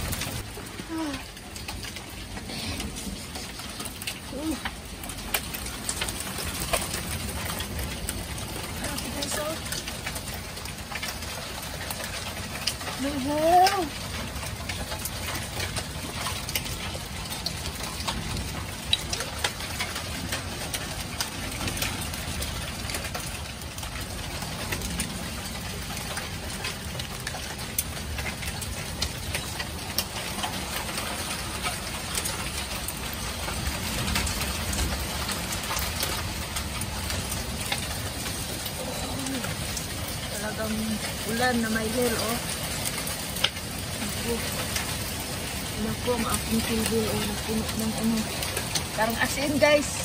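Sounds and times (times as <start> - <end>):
hailstones clicking on wood: 0.0 - 50.0
heavy rain hissing: 0.0 - 50.0.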